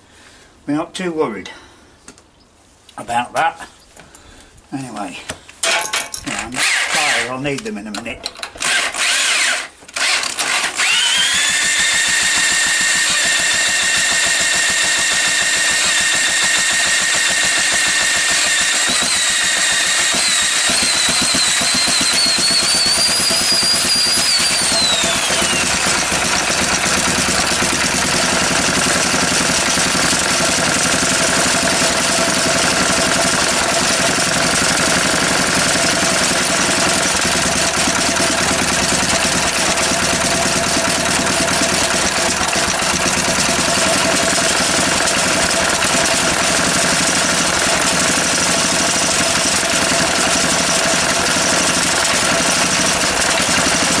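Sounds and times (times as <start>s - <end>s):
electric drill whining: 6.3s - 7.3s, 8.4s - 54.0s
small petrol engine running: 8.6s - 54.0s.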